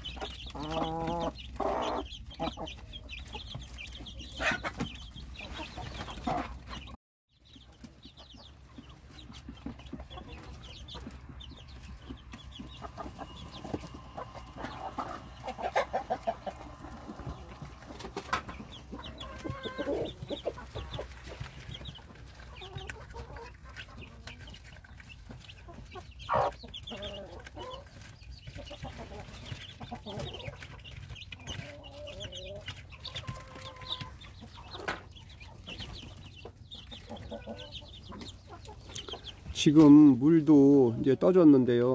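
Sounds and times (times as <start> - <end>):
hen clucking softly: 0.0 - 7.0, 8.1 - 39.7
chicks peeping: 0.0 - 41.9.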